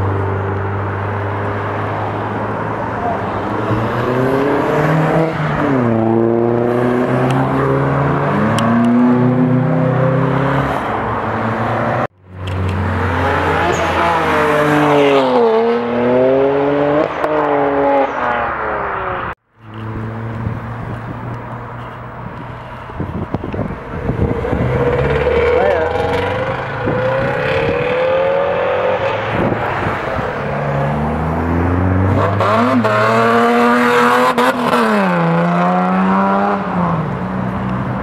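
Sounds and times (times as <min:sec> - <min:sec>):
car engines accelerating: 0:00.0 - 0:38.0.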